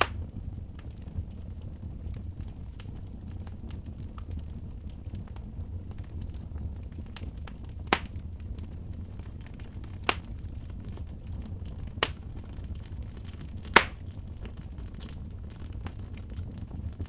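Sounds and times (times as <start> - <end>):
sharp pops from burning wood: 0.0 - 17.0
wood fire burning: 0.0 - 17.0.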